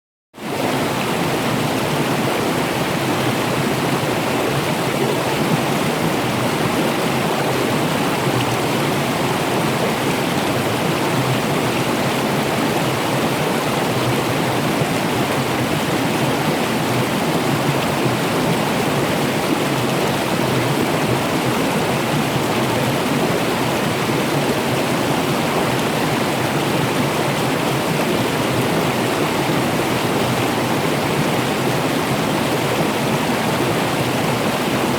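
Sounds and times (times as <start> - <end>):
running water rushing: 0.4 - 34.9.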